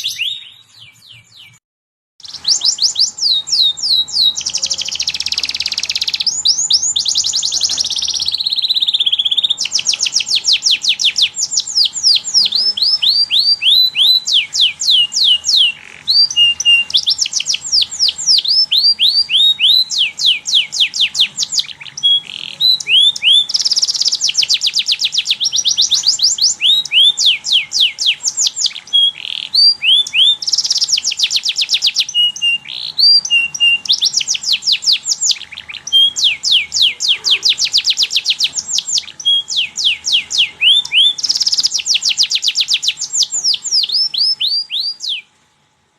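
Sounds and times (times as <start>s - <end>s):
canary singing trills: 0.0s - 1.6s, 2.2s - 45.4s.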